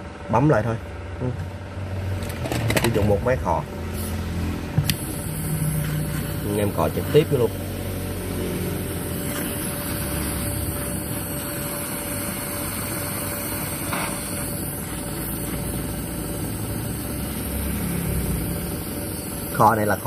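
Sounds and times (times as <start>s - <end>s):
hot-air gun blowing: 3.8s - 20.0s.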